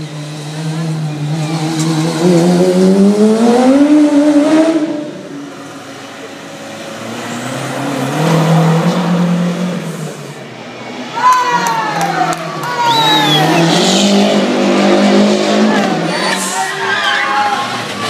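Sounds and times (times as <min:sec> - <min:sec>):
car engines accelerating: 0:00.0 - 0:18.0.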